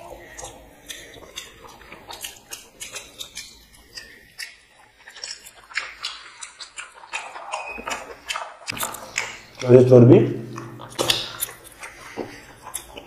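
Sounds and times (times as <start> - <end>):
people chewing food: 0.0 - 13.0.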